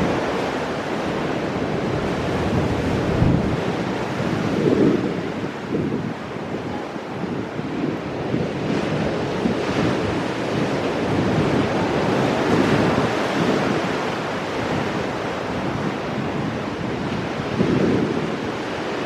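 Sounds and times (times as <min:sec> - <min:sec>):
surf washing over rocks: 0:00.0 - 0:19.0.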